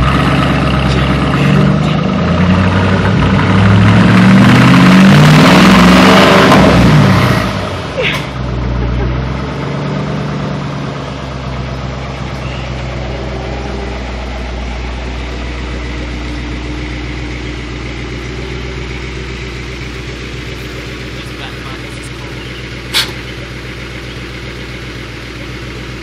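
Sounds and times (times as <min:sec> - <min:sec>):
car engine idling with deep burble: 0:00.0 - 0:04.0, 0:07.6 - 0:26.0.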